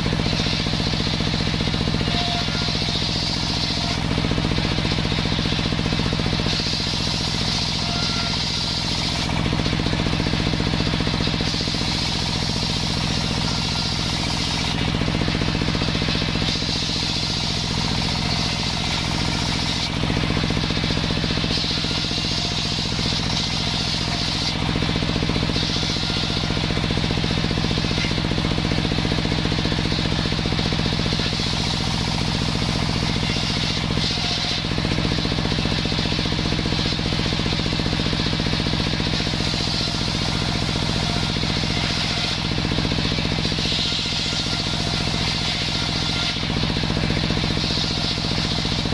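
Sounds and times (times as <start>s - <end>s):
circular saw drive hum: 0.0s - 48.9s
saw blade cutting wood: 0.0s - 48.9s.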